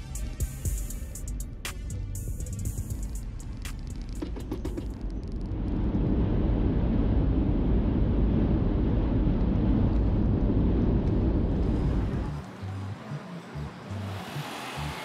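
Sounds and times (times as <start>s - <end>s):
road and wind noise in car: 0.2s - 15.0s.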